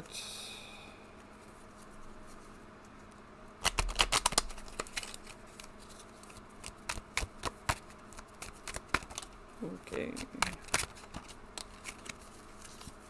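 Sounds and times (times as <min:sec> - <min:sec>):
cards being shuffled: 0:01.4 - 0:13.0.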